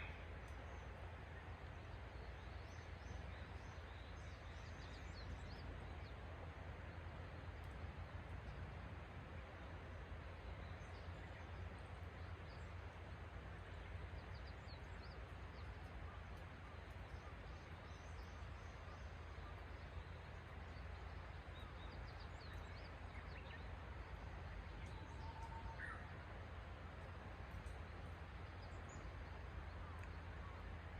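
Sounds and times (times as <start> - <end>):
low background rumble: 0.0 - 30.9.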